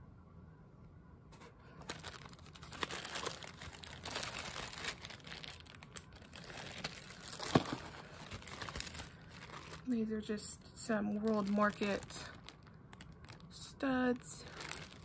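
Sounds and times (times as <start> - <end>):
plastic bags crinkling: 1.7 - 15.0.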